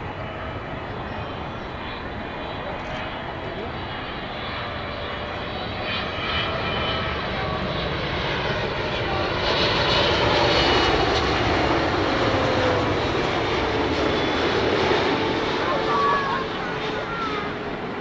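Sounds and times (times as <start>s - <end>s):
jet airliner passing: 0.0s - 18.0s.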